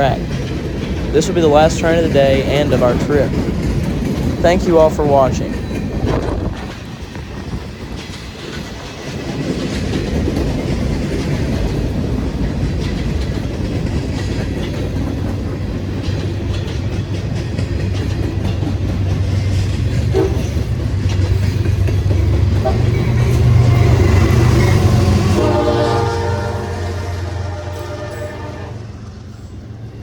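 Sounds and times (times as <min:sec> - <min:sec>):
train wheels clicking over rails: 0:00.0 - 0:25.4
low rumble of passing train: 0:00.0 - 0:30.0.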